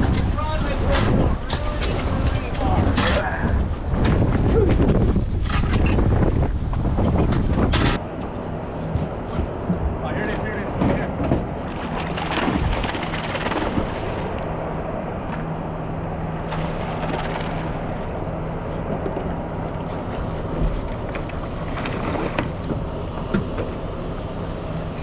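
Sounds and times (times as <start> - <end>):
boat motor humming: 0.0 - 25.0
wind and water noise: 0.0 - 25.0.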